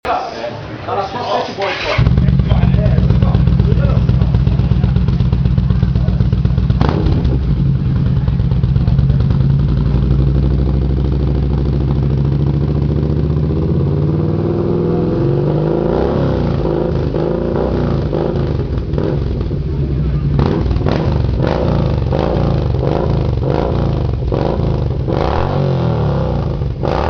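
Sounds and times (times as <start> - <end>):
motorcycle engine idling: 2.0 - 27.0.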